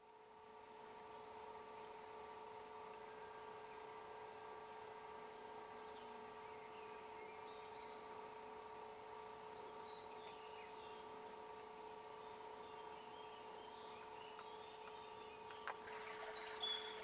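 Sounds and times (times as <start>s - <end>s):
steady hum and hiss: 0.0s - 17.0s
faint birdsong: 0.4s - 17.0s.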